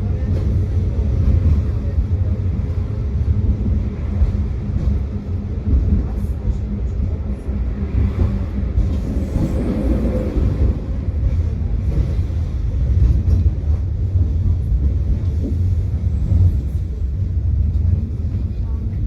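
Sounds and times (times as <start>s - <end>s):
tram wheels rumbling: 0.0s - 19.0s.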